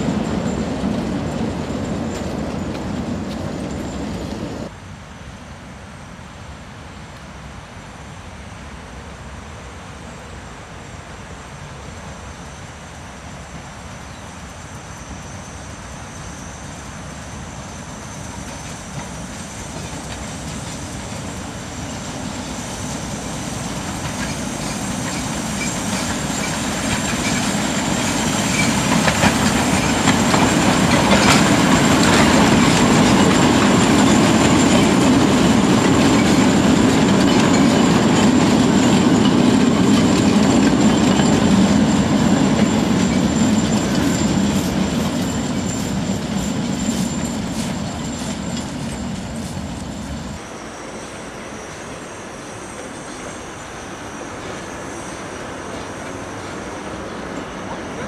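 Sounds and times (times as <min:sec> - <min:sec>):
steam locomotive passing: 0:00.0 - 0:04.8, 0:11.2 - 0:58.0.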